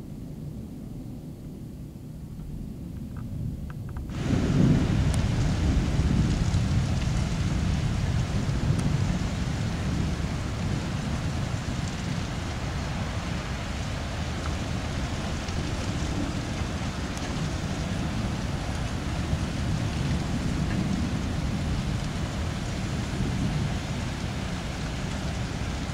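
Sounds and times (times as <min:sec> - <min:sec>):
wind buffeting the microphone: 0:00.0 - 0:25.9
heavy rain hissing: 0:04.1 - 0:25.9.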